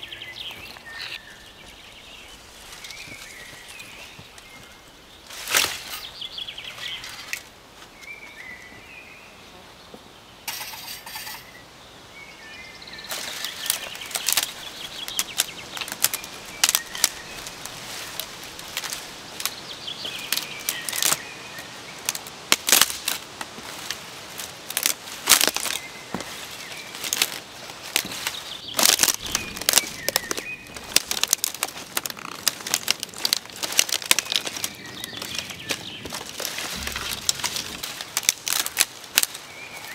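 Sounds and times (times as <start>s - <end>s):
dry twigs rustling and snapping: 0.4s - 8.4s, 13.1s - 39.9s.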